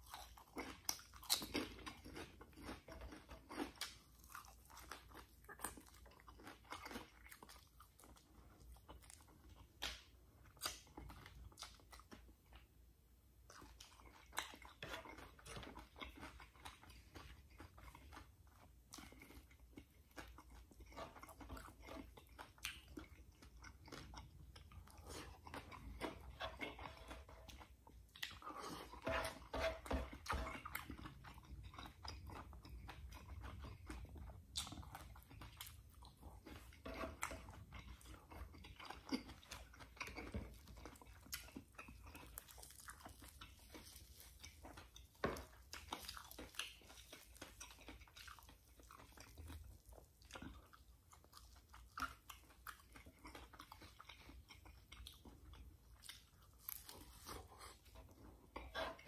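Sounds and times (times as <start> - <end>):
man chewing and eating: 0.0 - 59.0.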